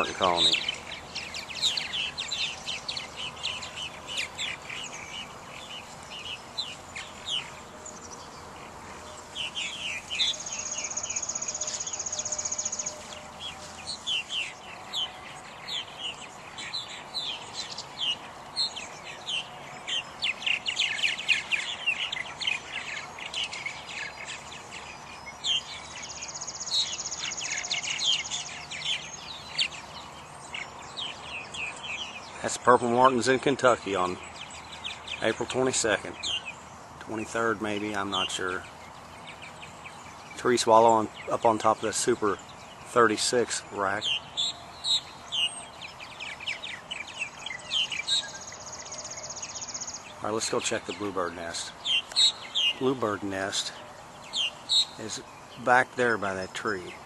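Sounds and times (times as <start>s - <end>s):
birds chirping and chattering: 0.0s - 57.0s.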